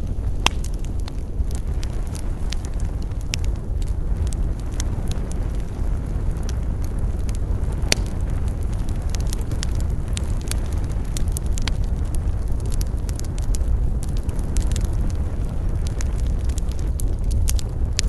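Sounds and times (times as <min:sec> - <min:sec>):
wood crackling and popping: 0:00.0 - 0:18.0
wood fire rumbling: 0:00.0 - 0:18.0.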